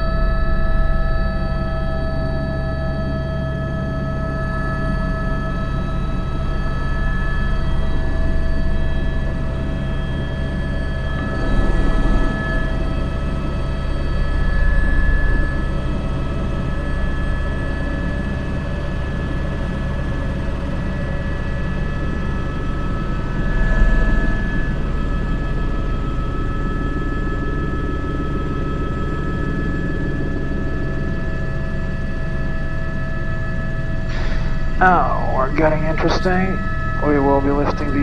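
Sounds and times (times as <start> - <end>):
helicopter turbine whine: 0.0 - 38.0
helicopter rotor beat: 0.1 - 38.0.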